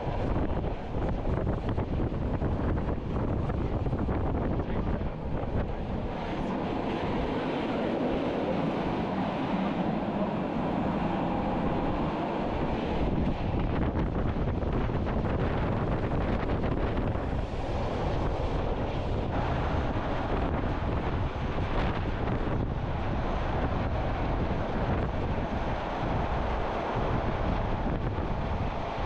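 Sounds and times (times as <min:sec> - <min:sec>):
train rumbling: 0:00.0 - 0:29.0
wind buffeting microphone: 0:00.0 - 0:29.0.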